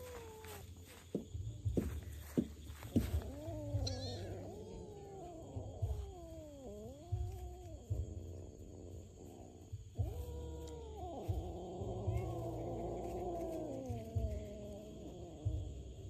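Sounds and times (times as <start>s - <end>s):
kittens meowing: 0.0s - 1.0s, 2.8s - 16.0s.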